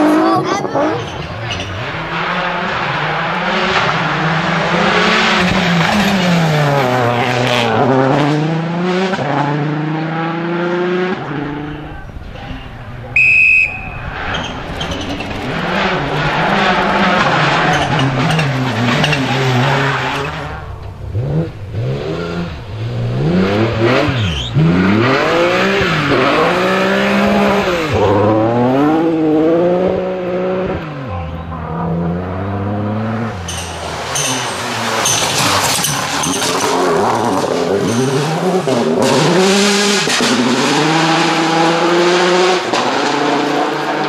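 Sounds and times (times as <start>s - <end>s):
rally car engine revving: 0.0s - 44.0s.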